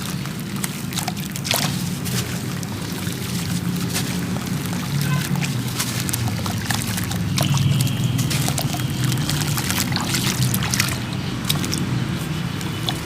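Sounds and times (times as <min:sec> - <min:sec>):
crumbling crackles and taps: 0:00.0 - 0:13.0
falling grit trickling: 0:00.0 - 0:13.0.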